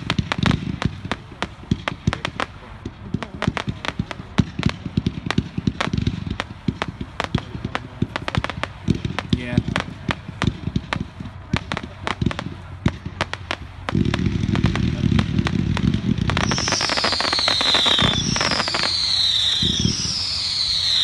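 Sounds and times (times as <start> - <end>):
fireworks falling whistles: 0.0 - 21.0
fireworks popping: 0.0 - 21.0.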